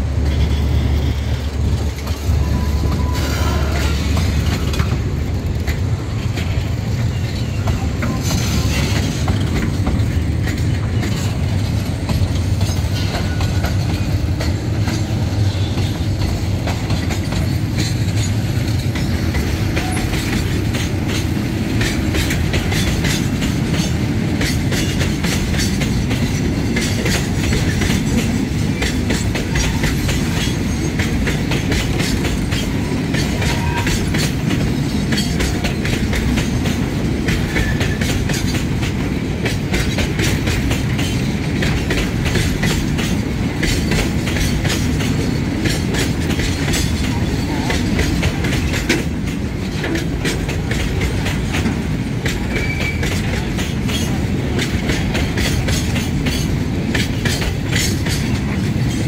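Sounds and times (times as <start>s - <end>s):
train wheels rumbling on track: 0.0s - 59.0s
clacks over rail joints: 0.1s - 59.0s.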